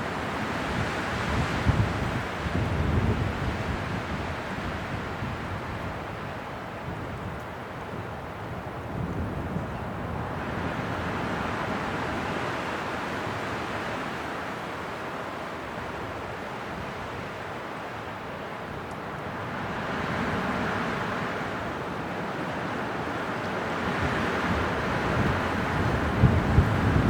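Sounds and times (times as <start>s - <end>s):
wind blowing in gusts: 0.0s - 27.0s.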